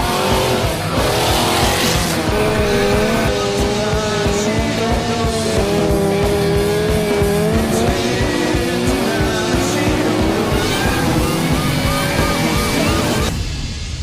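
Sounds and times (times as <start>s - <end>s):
car engine revving: 0.0s - 13.4s
rock music: 0.0s - 14.0s.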